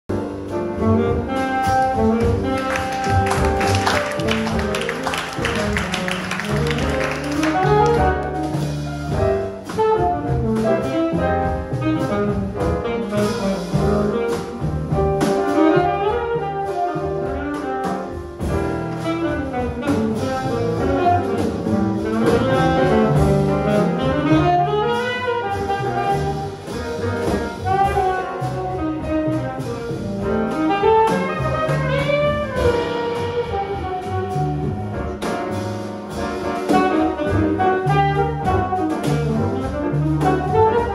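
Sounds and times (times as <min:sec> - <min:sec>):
piano: 0:00.0 - 0:40.9
double bass: 0:00.1 - 0:40.9
drums: 0:00.1 - 0:40.9
saxophone jazz solo: 0:00.1 - 0:40.9.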